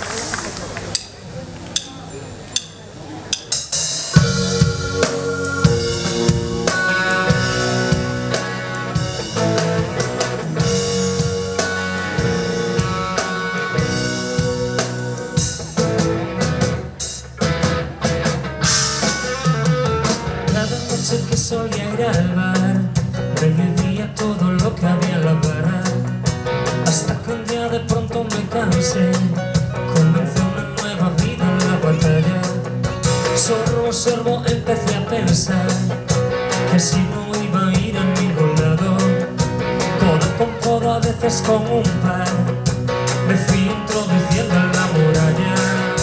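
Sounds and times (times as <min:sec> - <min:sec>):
pop-rock band playing: 0:03.4 - 0:46.0.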